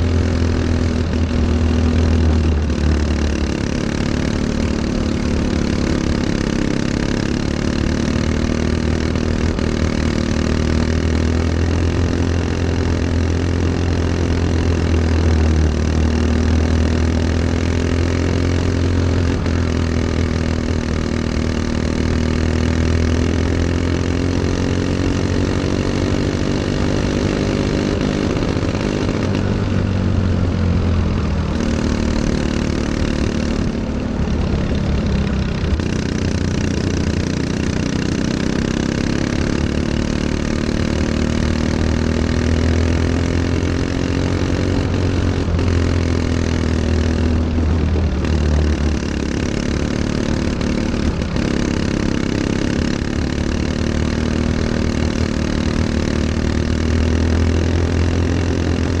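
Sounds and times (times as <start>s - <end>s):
kart engine running: 0.0s - 59.0s.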